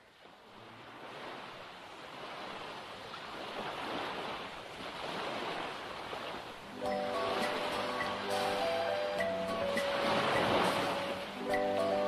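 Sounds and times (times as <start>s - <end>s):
sea waves washing: 0.0s - 12.0s.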